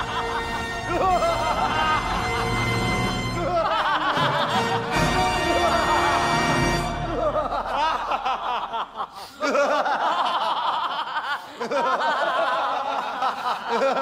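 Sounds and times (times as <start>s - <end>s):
group of people laughing: 0.0s - 14.0s.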